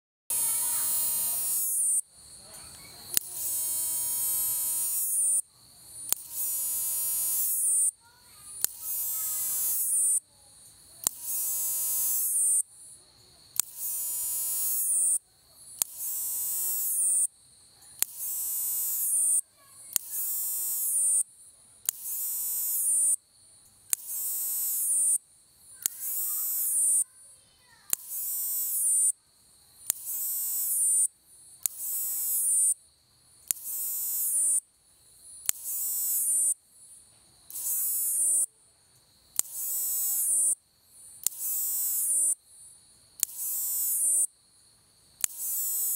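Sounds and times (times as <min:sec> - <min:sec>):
katydid high-pitched buzz: 0:00.3 - 0:17.3, 0:18.0 - 0:23.2, 0:23.9 - 0:29.2, 0:29.8 - 0:32.8, 0:33.4 - 0:34.7, 0:35.3 - 0:38.6, 0:39.3 - 0:44.4, 0:45.2 - 0:45.9.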